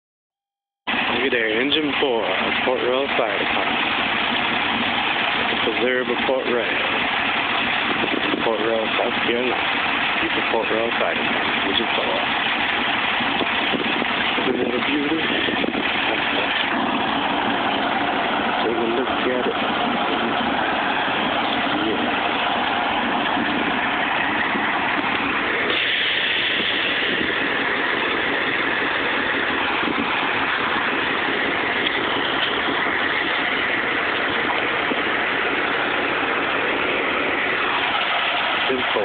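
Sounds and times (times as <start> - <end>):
fire engine idling: 0.8 - 39.0.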